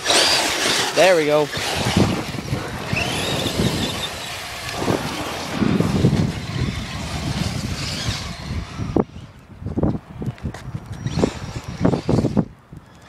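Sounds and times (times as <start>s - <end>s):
toy truck rumbling over gravel: 0.0s - 13.0s.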